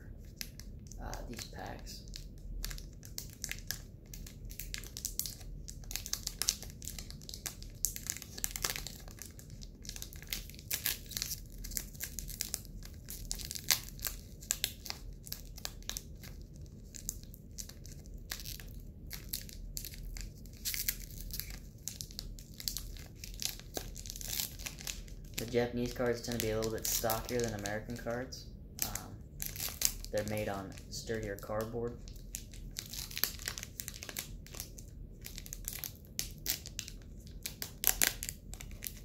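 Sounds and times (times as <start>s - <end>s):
foil wrapper crinkling and tearing: 0.2s - 39.0s.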